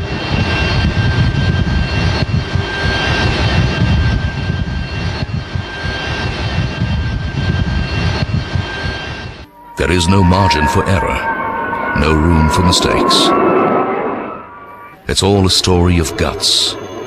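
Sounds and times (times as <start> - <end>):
aircraft engine rumble and whine: 0.0 - 17.0.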